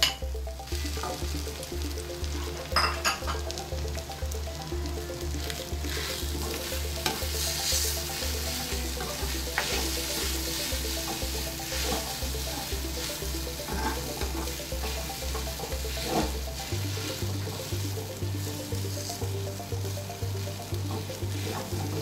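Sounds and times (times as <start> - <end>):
background music with a beat: 0.0 - 22.0
paste sizzling in hot oil: 0.1 - 22.0.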